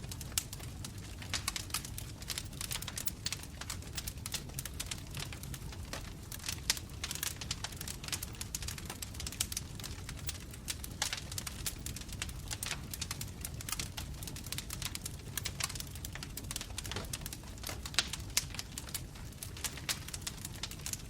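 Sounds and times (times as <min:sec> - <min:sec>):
bonfire crackling and popping: 0:00.0 - 0:21.0
low rumble of flames: 0:00.0 - 0:21.0.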